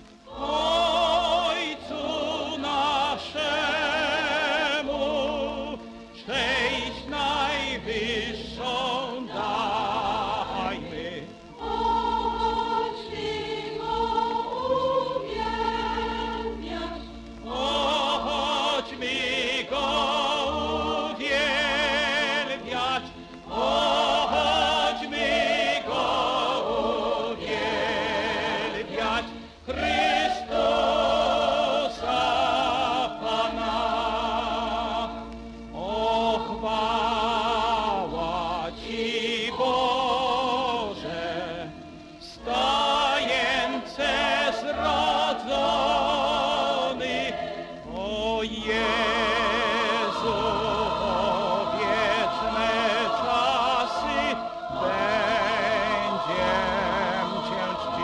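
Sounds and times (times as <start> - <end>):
choir: 0.0 - 58.0
orchestra: 0.0 - 58.0
person singing with vibrato: 0.0 - 58.0.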